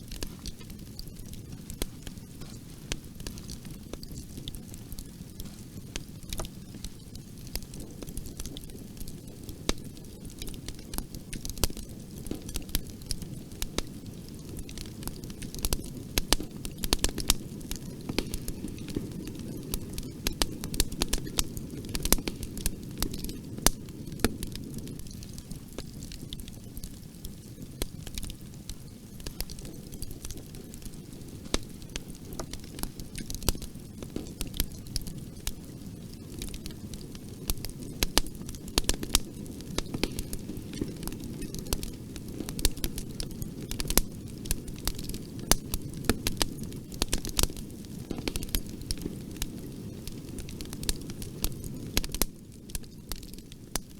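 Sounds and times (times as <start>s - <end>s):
bonfire flames rumbling: 0.0s - 53.9s
burning wood crackling and popping: 0.0s - 53.9s.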